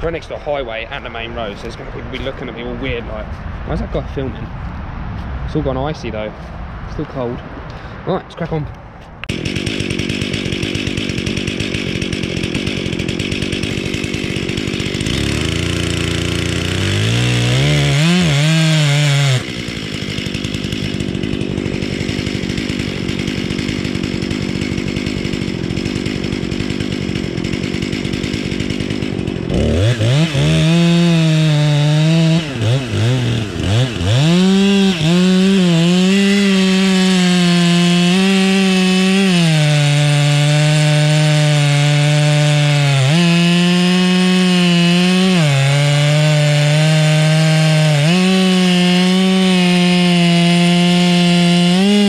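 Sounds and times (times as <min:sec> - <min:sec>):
chainsaw cutting into log: 0:09.2 - 0:52.0
chainsaw running and revving: 0:09.2 - 0:52.0.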